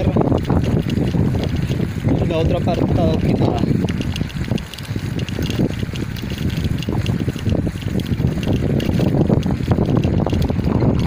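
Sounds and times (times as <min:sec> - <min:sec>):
rumble of driving on dirt road: 0:00.0 - 0:11.0
wind buffeting microphone: 0:00.0 - 0:11.0.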